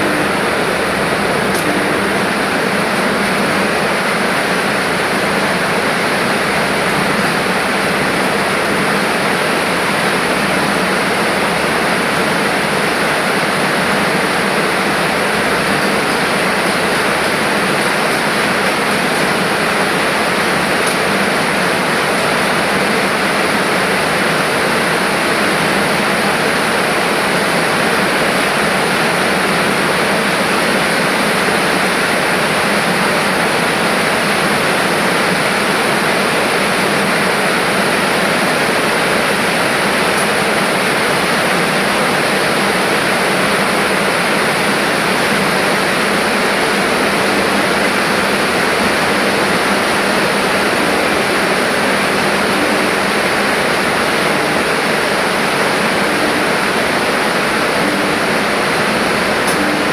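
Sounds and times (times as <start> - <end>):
packing machine whirring: 0.0 - 59.9.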